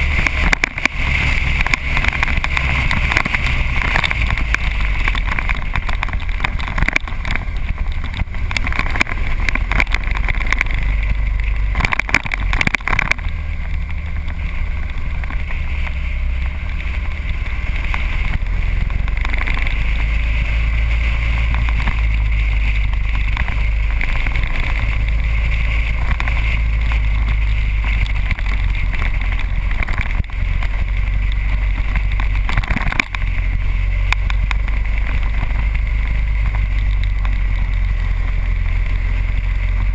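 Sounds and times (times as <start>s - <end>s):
crackling wind buffets: 0.0s - 39.9s
motorcycle engine rumble: 0.0s - 39.9s
wind rush on microphone: 0.0s - 39.9s.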